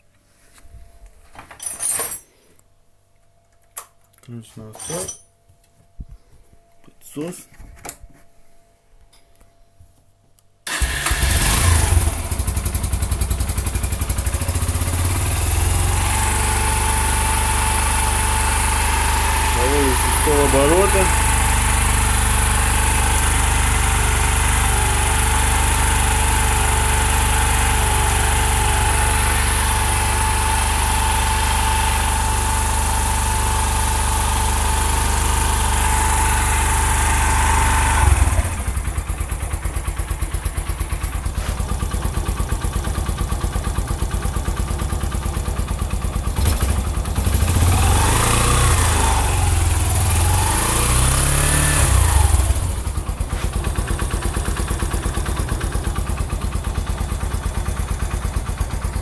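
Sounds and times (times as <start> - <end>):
motorcycle engine idling: 10.7 - 59.0.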